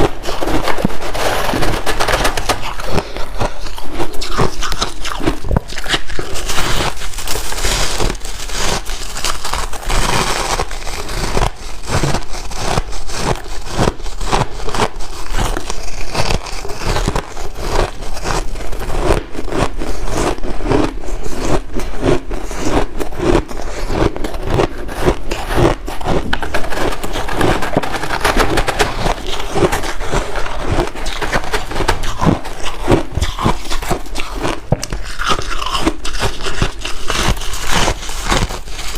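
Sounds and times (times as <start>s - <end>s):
ice being chewed and crunched: 0.0s - 38.9s.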